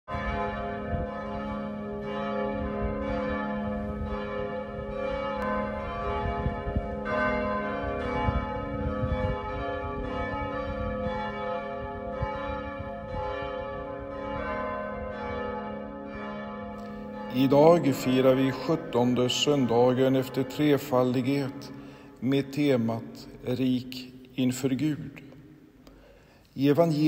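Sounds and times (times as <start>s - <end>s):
church bells ringing: 0.1s - 25.0s.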